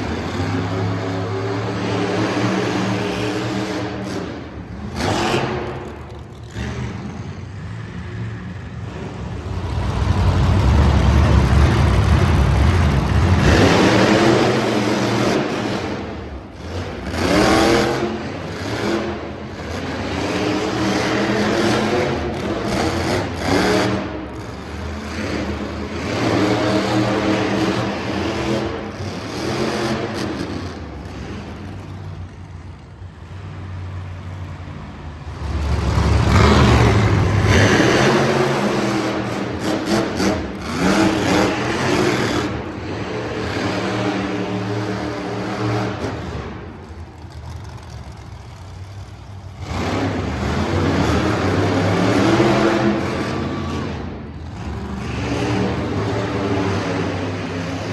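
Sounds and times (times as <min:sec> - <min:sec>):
monster truck engine revving: 0:00.0 - 0:57.9.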